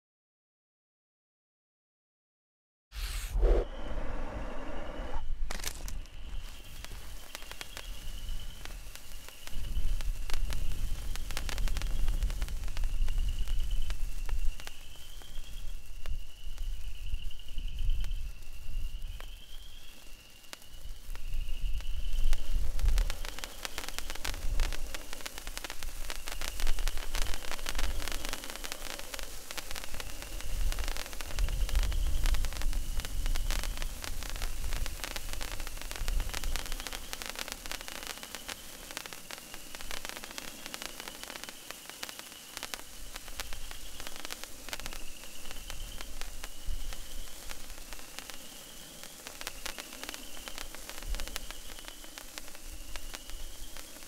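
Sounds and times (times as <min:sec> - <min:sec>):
sparkler fizzing and crackling: 0:03.0 - 0:04.1, 0:05.1 - 0:54.0.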